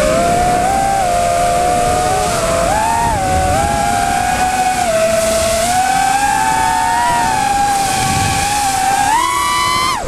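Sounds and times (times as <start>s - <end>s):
quadcopter motors whining: 0.0s - 10.0s.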